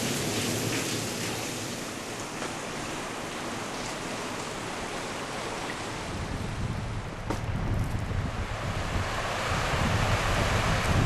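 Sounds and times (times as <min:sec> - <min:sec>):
river water rushing: 0:00.0 - 0:07.6, 0:08.2 - 0:11.0.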